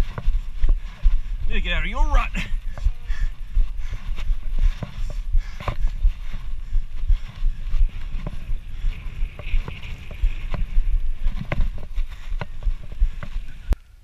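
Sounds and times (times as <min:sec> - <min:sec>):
bike frame vibration rumble: 0:00.0 - 0:01.5, 0:02.4 - 0:14.0
wind buffeting microphone: 0:00.0 - 0:14.0.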